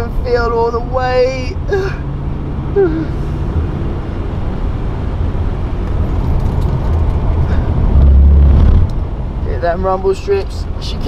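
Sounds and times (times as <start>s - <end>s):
car engine running in cabin: 0.0s - 11.0s.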